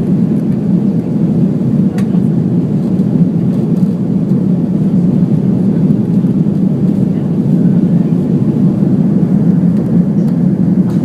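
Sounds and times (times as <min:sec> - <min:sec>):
jet engine rumble in cabin: 0:00.0 - 0:11.0.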